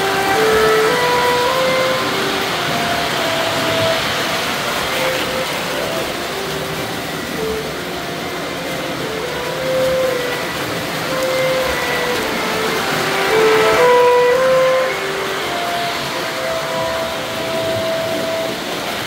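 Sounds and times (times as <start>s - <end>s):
faint tune of short notes: 0.0s - 19.0s
model trains rolling on track: 0.0s - 19.0s.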